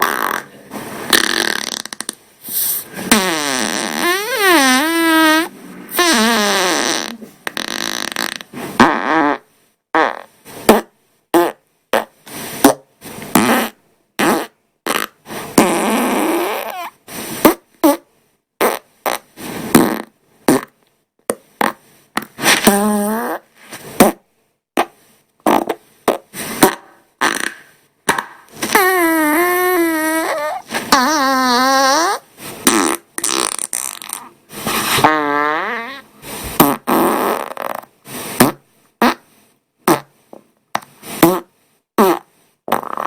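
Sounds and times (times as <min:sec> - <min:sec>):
farts: 0:00.0 - 0:20.8, 0:21.6 - 0:24.2, 0:24.8 - 0:40.2, 0:40.8 - 0:43.0.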